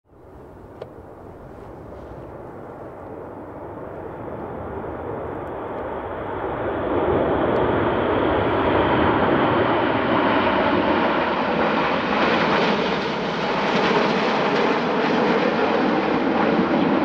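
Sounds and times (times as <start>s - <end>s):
jets flying past roaring: 0.2s - 17.0s.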